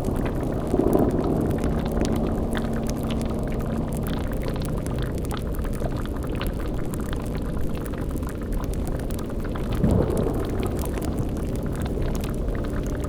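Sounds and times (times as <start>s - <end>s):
cauldron boiling and bubbling: 0.0s - 13.0s
fire crackles: 0.0s - 13.0s
low gurgling: 0.0s - 13.0s.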